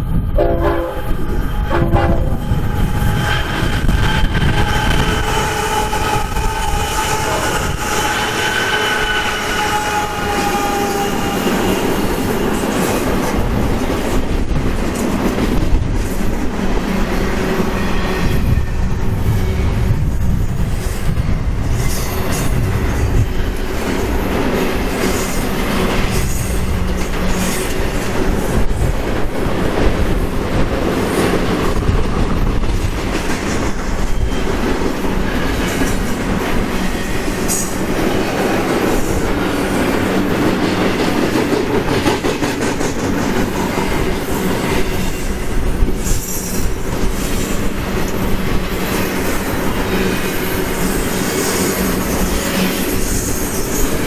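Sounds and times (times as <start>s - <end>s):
freight train wheels rumbling on rail: 0.0s - 54.0s
rail clicks and clacks: 0.0s - 54.0s.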